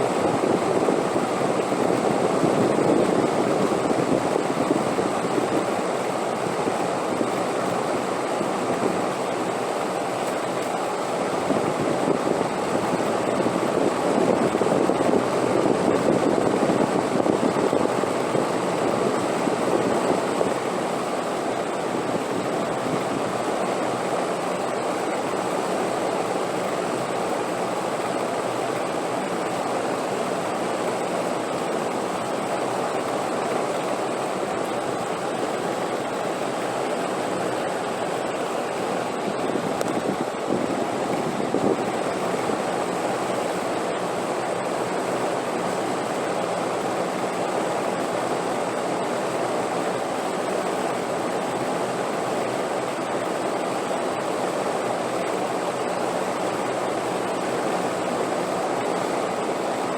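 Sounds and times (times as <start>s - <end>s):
rushing wind: 0.0s - 27.6s, 28.4s - 59.6s.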